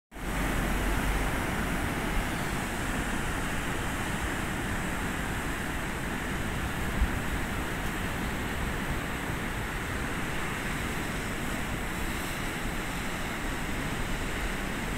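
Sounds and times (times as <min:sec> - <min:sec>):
ocean surf breaking: 0:00.1 - 0:14.9.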